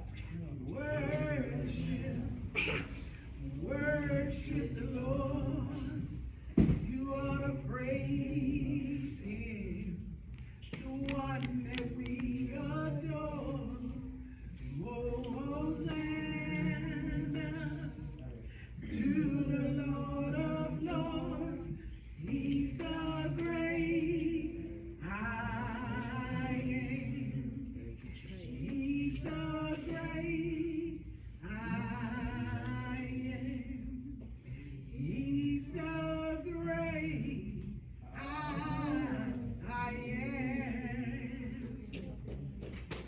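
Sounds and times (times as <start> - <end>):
congregation singing: 0.0 - 42.2.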